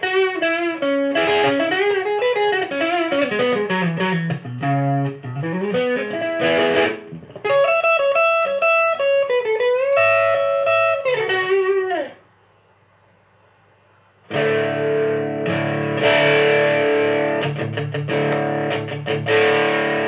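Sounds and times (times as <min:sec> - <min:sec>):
electric guitar playing: 0:00.0 - 0:12.2, 0:14.3 - 0:20.0.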